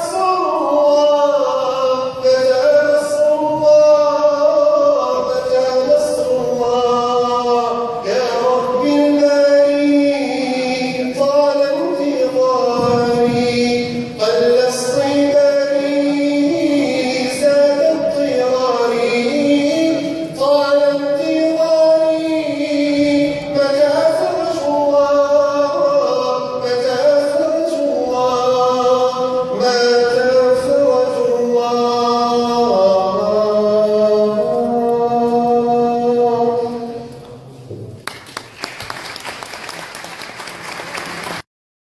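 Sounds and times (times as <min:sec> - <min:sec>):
man singing: 0:00.0 - 0:37.5.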